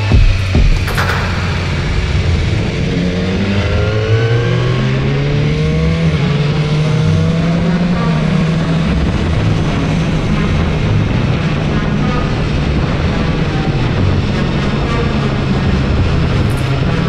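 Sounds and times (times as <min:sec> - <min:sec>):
motorcycle engine accelerating: 0:00.0 - 0:17.0
wind noise: 0:00.0 - 0:17.0.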